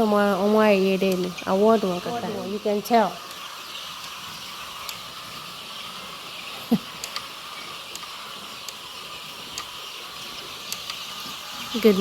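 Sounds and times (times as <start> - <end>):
hiss-like room noise: 0.0 - 12.0.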